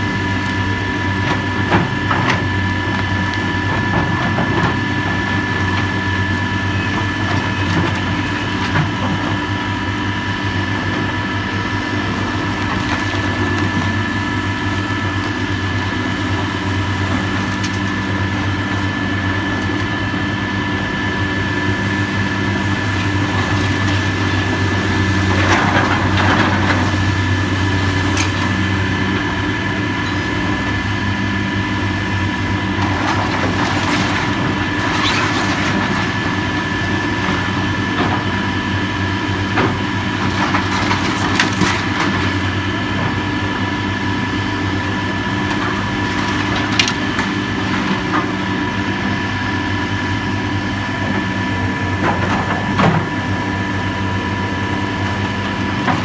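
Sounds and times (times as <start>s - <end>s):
demolition machine engine running: 0.0s - 56.0s.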